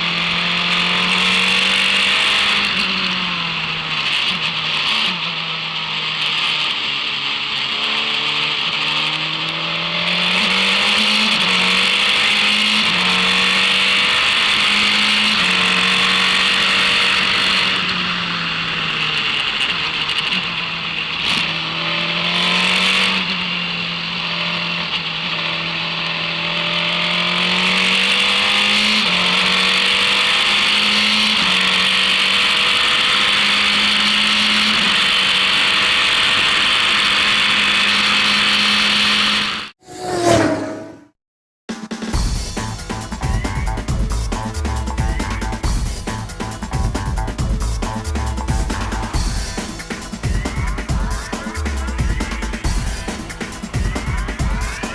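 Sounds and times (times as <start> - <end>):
race car engine: 0.0 - 41.2, 42.1 - 54.9.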